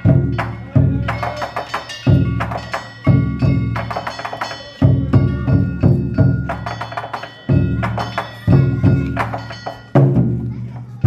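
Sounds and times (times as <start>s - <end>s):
large taiko drum strikes: 0.0s - 10.4s
small metal gongs clanging: 0.0s - 11.0s.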